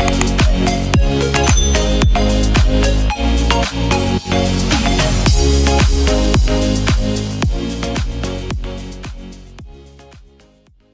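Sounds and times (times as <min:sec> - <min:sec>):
upbeat electronic music: 0:00.0 - 0:10.6.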